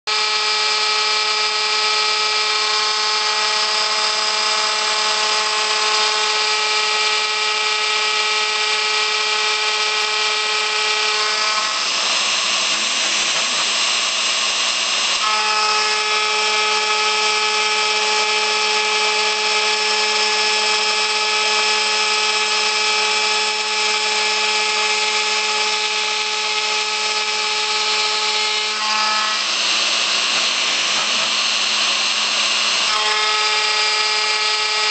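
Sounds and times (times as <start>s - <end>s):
rough metal cutting noise: 0.1s - 34.9s
router spindle ringing whine: 0.1s - 34.9s.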